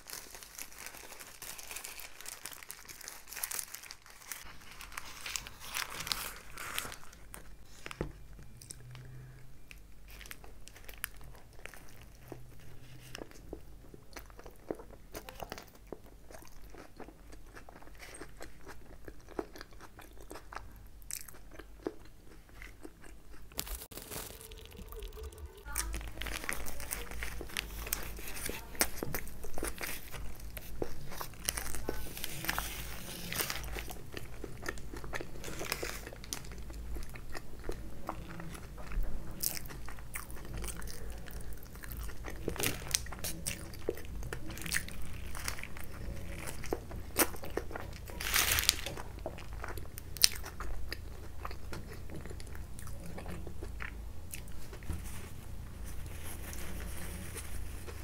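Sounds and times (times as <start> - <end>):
sandwich crunching and chewing: 0.0 - 58.0.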